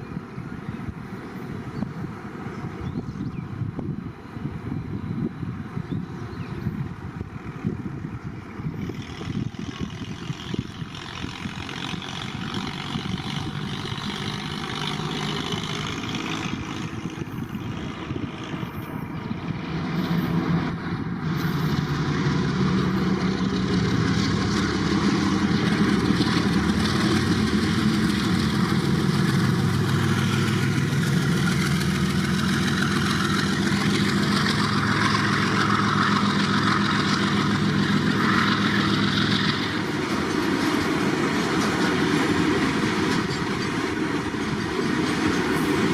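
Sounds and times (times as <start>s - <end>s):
train engine humming: 0.0s - 45.9s.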